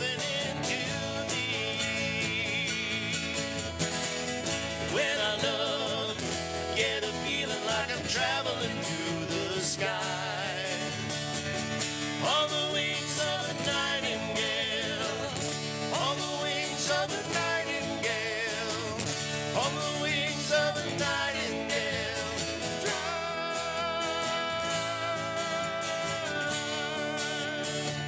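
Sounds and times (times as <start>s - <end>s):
country folk band playing: 0.0s - 28.0s
strummed guitar chords: 0.0s - 28.0s.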